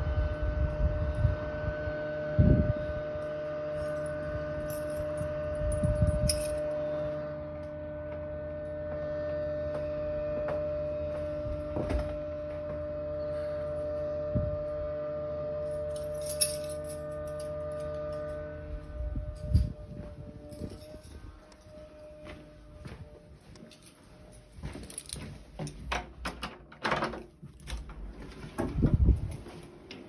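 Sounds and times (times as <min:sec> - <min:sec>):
droning hum: 0:00.0 - 0:30.0.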